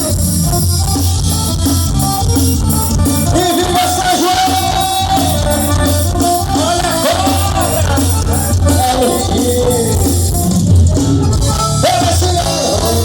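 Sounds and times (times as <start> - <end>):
bass and drum beats: 0.0 - 13.0
live band playing: 0.0 - 13.0
sliding lead melody: 0.0 - 13.0.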